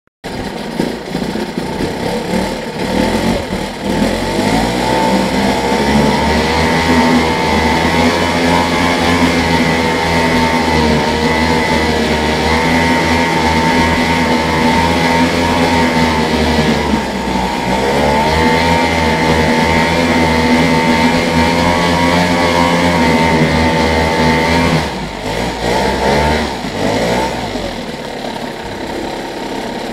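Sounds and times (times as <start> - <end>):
outboard motor running: 0.2 - 29.9.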